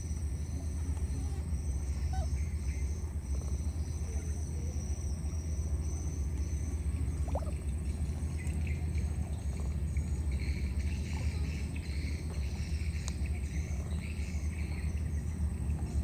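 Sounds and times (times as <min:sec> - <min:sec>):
low continuous rumble: 0:00.0 - 0:16.0.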